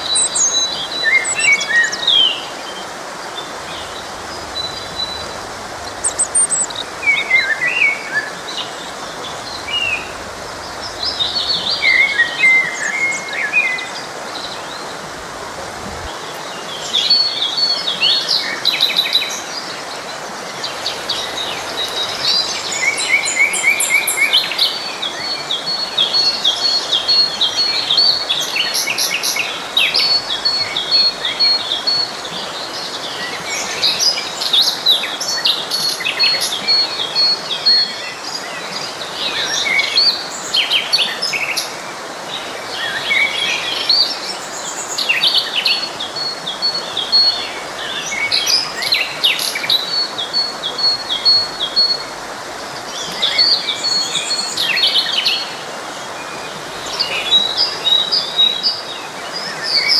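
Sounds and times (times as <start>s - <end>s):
forest stream rushing: 0.0s - 59.9s
songbirds singing and chirping: 0.0s - 59.9s.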